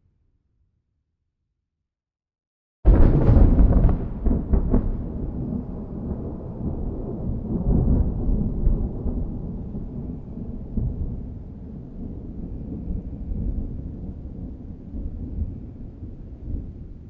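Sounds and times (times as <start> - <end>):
thunder clap and rumble: 2.9 - 17.0.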